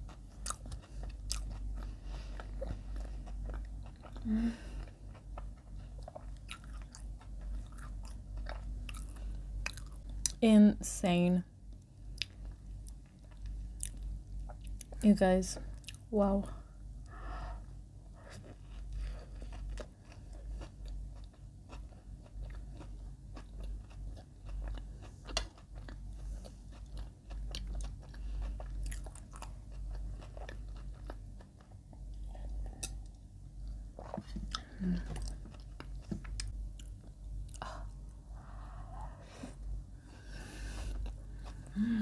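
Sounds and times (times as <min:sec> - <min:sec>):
chewing crunchy bread: 0:00.0 - 0:10.4, 0:11.7 - 0:15.0, 0:15.6 - 0:38.8, 0:40.6 - 0:42.0.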